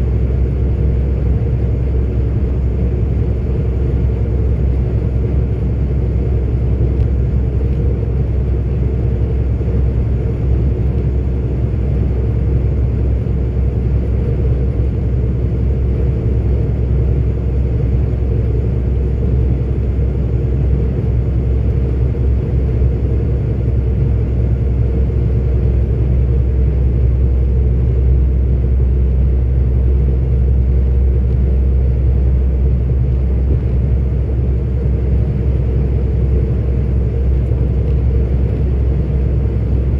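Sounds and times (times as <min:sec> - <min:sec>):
truck engine and tyres rumbling: 0:00.0 - 0:39.9.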